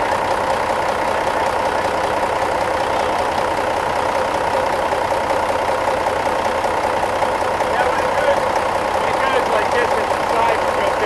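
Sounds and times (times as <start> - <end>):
steady engine noise: 0.0 - 11.0.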